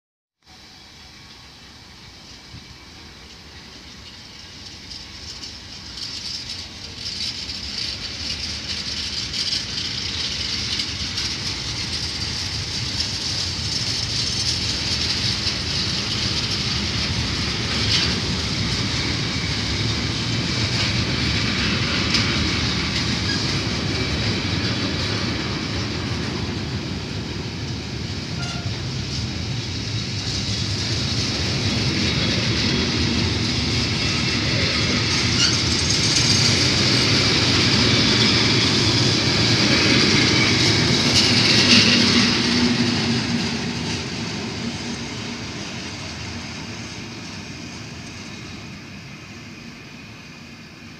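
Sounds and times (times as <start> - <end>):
train wheels rattling on rails: 0.5 - 50.9.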